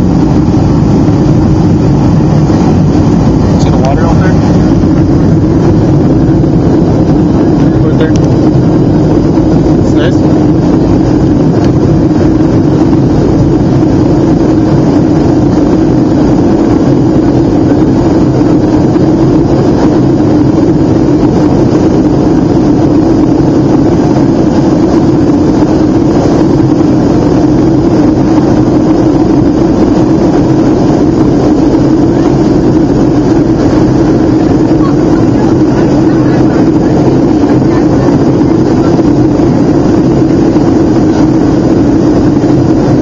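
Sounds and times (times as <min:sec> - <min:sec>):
aircraft cabin engine and airflow noise: 0:00.0 - 0:43.0
steady hum: 0:00.0 - 0:43.0.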